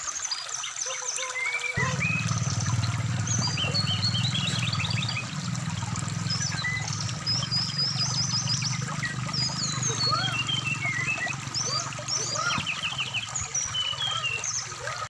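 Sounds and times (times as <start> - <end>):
stream water rushing: 0.0 - 15.0
bird singing whistled notes: 1.4 - 5.4, 6.2 - 14.7.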